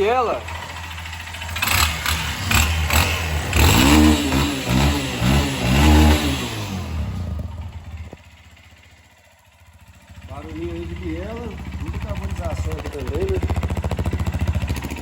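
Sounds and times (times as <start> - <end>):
engine knocking: 0.0 - 15.0
motorcycle engine revving: 0.0 - 15.0.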